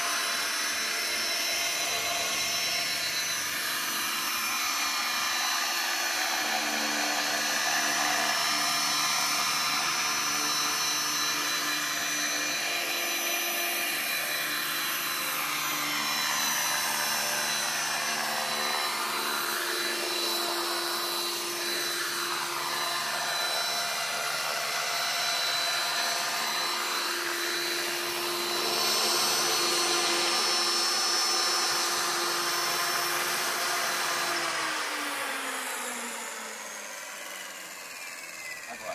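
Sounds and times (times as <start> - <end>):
model helicopter motor and rotor: 0.0 - 38.9.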